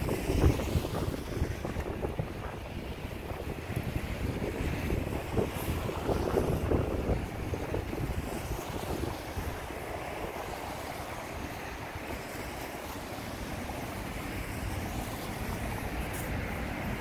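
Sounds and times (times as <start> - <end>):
passing traffic: 0.0 - 17.0
wind buffeting microphone: 0.0 - 17.0.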